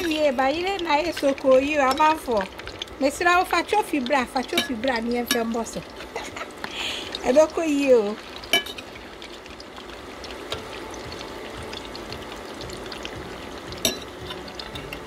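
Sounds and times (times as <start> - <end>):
chips sizzling in hot oil: 0.0 - 15.0.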